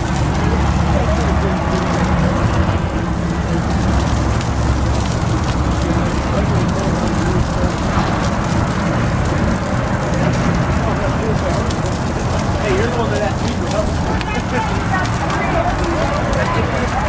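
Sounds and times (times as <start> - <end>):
burger patties sizzling on griddle: 0.0 - 17.0
low rumble: 0.0 - 17.0.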